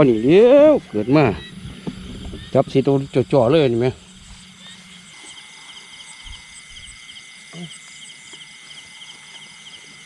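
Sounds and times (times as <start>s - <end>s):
insects droning and chirping: 0.0s - 10.0s.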